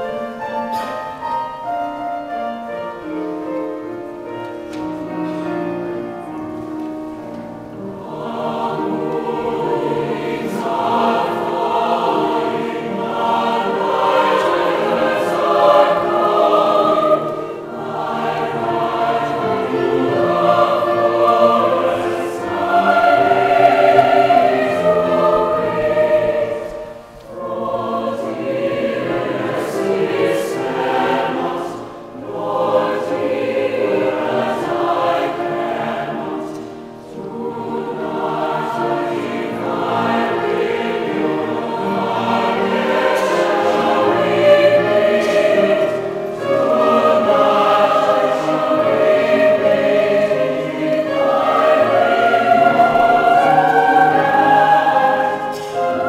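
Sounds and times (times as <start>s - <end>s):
large choir singing: 0.0s - 56.0s.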